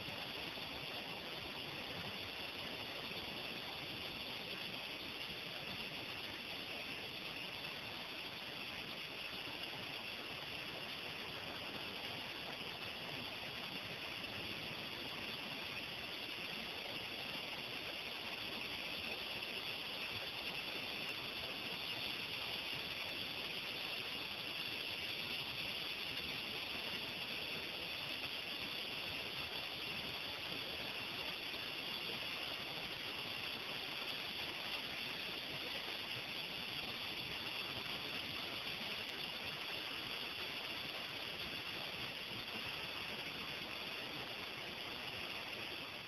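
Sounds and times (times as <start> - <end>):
steady outdoor hiss: 0.0 - 46.0.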